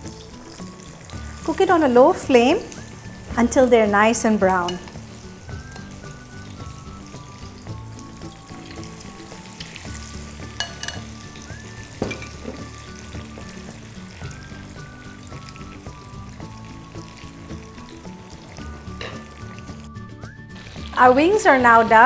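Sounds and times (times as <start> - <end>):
food deep-frying in oil: 0.0 - 22.0.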